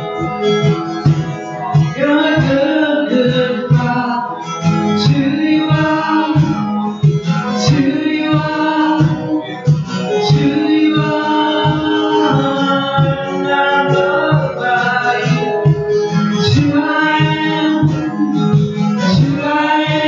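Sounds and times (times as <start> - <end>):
acoustic guitar strumming: 0.0 - 20.0
hand drum: 0.0 - 20.0
person singing: 0.0 - 20.0.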